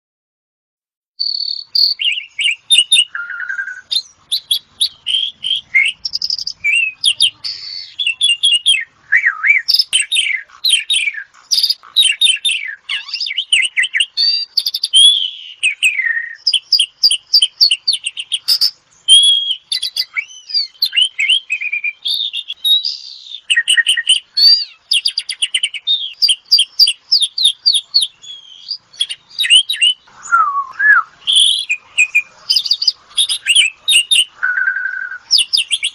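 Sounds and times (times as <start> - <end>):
starling singing: 1.2 - 35.9.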